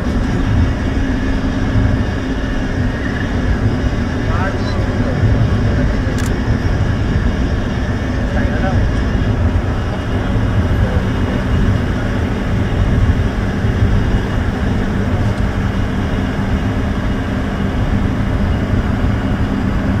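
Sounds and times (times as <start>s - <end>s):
bus cabin engine and road rumble: 0.0s - 20.0s.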